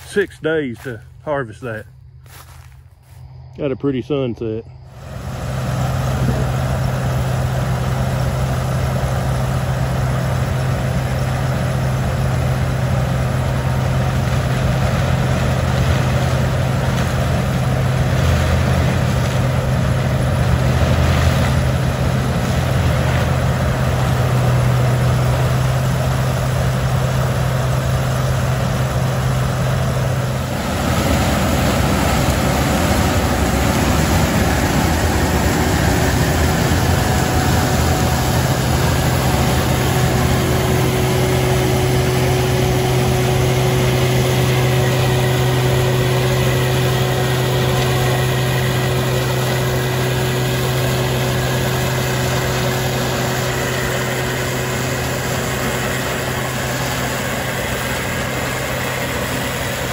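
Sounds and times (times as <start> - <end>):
combine harvester working: 0.0 - 59.9
machinery engines low hum: 0.0 - 59.9.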